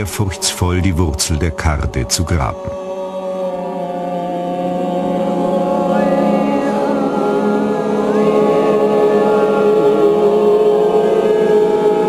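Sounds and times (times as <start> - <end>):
group singing long notes: 0.0 - 12.0.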